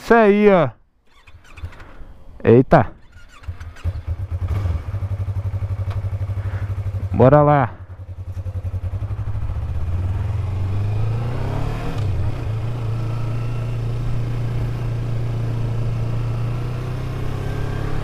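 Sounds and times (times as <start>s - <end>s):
motorcycle engine pulling away: 1.1s - 2.3s, 3.0s - 7.1s, 8.0s - 18.0s.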